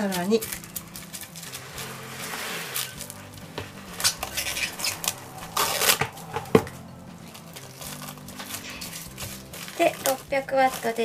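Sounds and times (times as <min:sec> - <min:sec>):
plastic wrap rustling: 0:00.0 - 0:06.7, 0:07.3 - 0:11.0.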